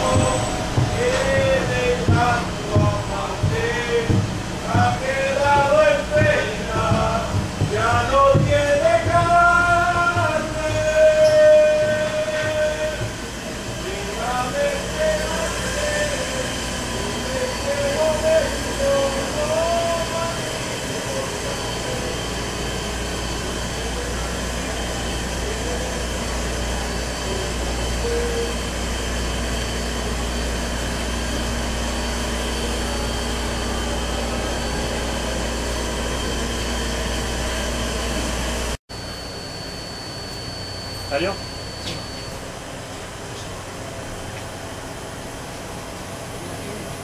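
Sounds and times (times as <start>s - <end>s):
machinery hum and rumble: 0.0s - 47.0s.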